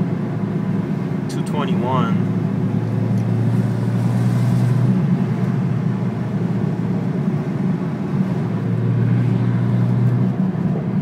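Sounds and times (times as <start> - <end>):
car engine drone: 0.0 - 11.0
road noise inside car: 0.0 - 11.0.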